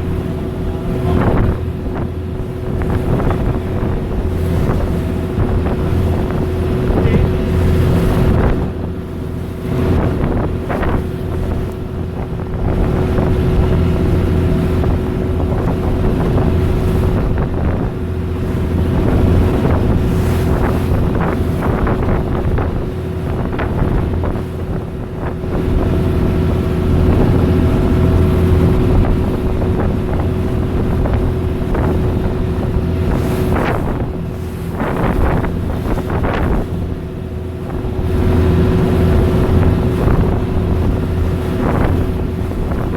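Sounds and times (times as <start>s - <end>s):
boat engine humming: 0.0s - 42.9s
wind buffeting microphone: 0.0s - 42.9s.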